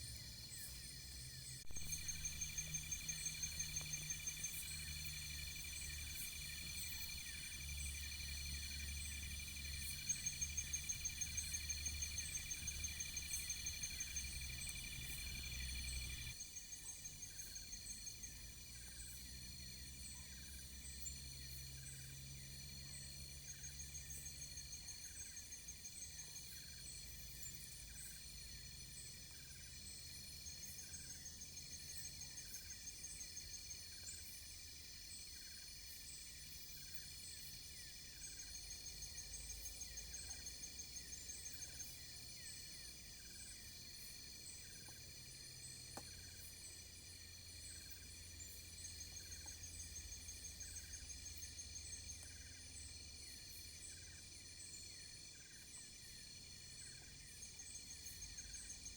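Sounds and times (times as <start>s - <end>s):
insect chirps: 0.0s - 58.9s
insect trills: 0.0s - 58.9s.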